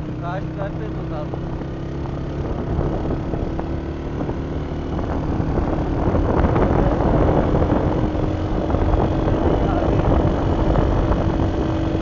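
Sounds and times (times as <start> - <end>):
vehicle engine and road noise: 0.0 - 12.0
wind buffeting microphone: 0.0 - 12.0.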